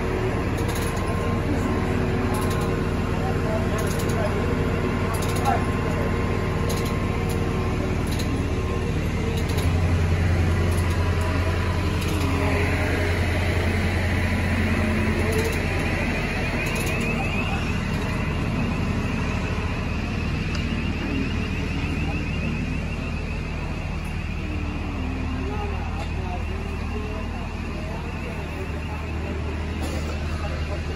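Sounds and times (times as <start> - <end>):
diesel engine humming: 0.0 - 30.9.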